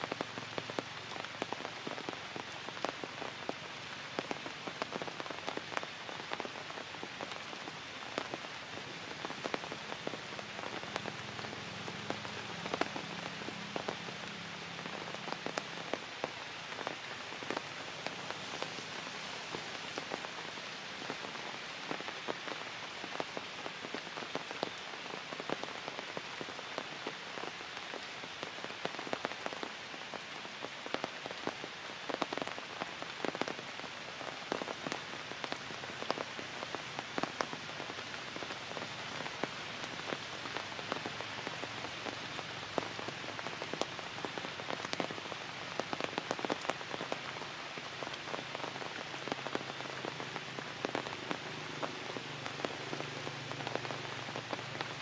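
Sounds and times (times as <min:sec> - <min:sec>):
rain falling on leaves: 0:00.0 - 0:55.0
raindrops hitting close by: 0:00.0 - 0:55.0.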